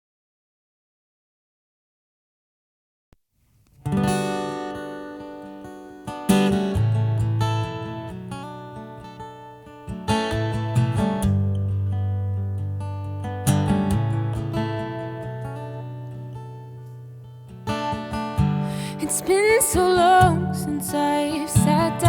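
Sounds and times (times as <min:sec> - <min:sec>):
acoustic guitar strumming chords: 0:03.8 - 0:22.0.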